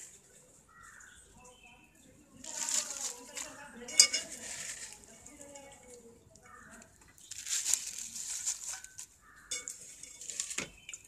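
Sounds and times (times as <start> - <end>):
spinach leaves rustling in a pot: 0.0 - 11.0.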